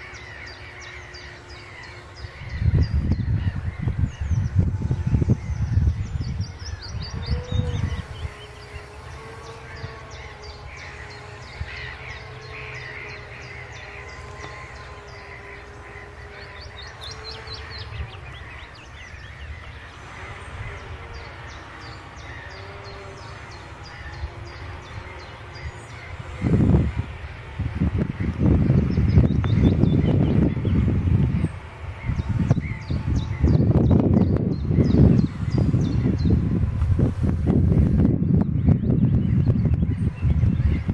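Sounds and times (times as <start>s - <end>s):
birds chirping and trilling: 0.0s - 40.9s
distant tractor engine drone: 0.0s - 40.9s.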